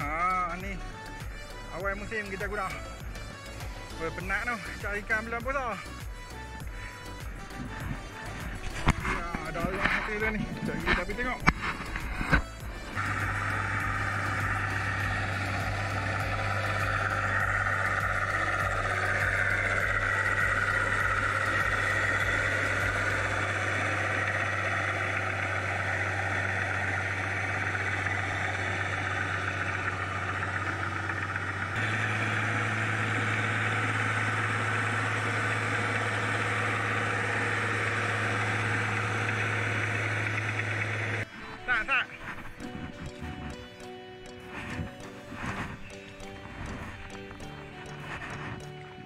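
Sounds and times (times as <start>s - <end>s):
tractor engine humming: 0.0s - 49.0s.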